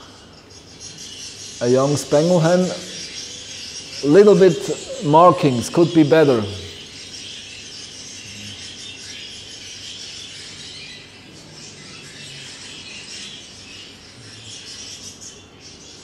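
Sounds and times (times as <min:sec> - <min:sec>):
birds chirping: 0:00.0 - 0:16.0
steady room hiss: 0:00.0 - 0:16.0.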